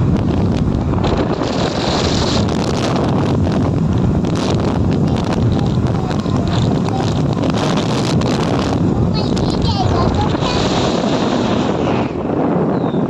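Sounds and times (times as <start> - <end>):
motorbike running and road noise: 0.0 - 13.0
wind buffeting microphone: 0.0 - 13.0.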